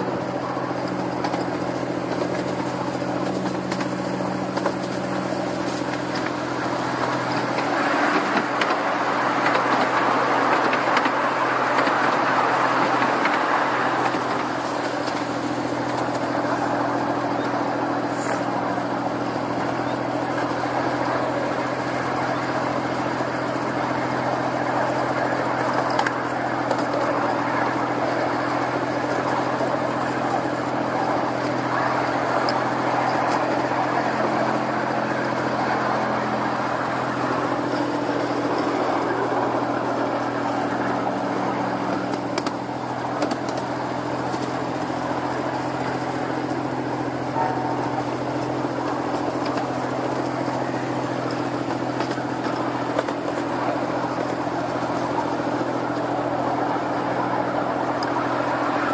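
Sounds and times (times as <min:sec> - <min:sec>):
motor hum: 0:00.0 - 0:58.9
wheels rumbling on rail: 0:00.0 - 0:58.9.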